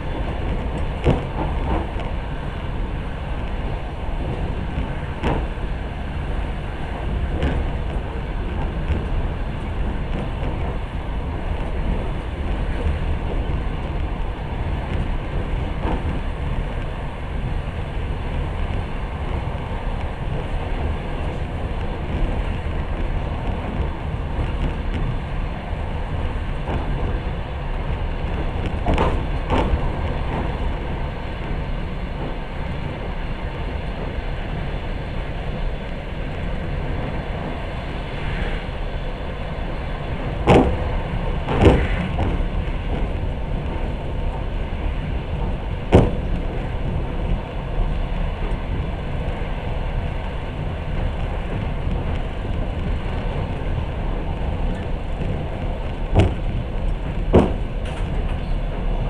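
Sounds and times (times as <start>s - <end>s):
train wheels knocking: 0.0s - 38.5s, 39.9s - 59.0s
train rumble from inside carriage: 0.0s - 59.0s.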